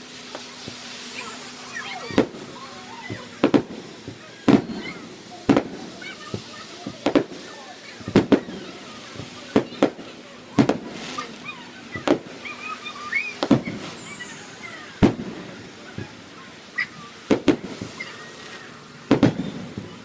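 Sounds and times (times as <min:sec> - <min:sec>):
firework shells booming: 0:01.9 - 0:20.0.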